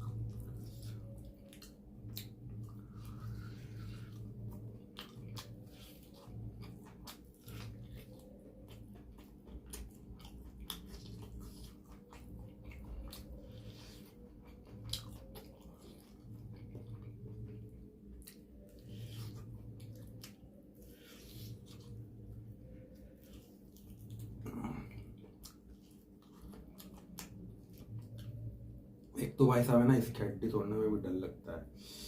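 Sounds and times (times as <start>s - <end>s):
person chewing: 0.0s - 28.6s
low hum: 0.0s - 32.0s.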